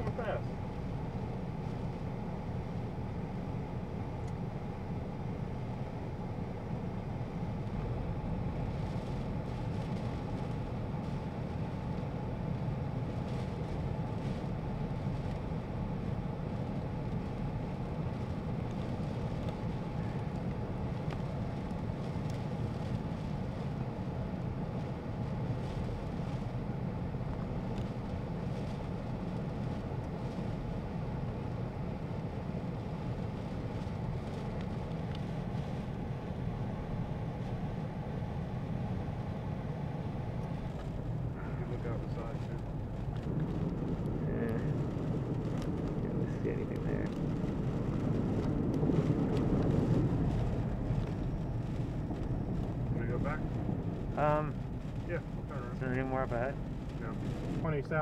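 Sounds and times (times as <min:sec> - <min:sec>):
car engine rumble: 0:00.0 - 0:58.0
tyres on wet pavement: 0:05.8 - 0:58.0.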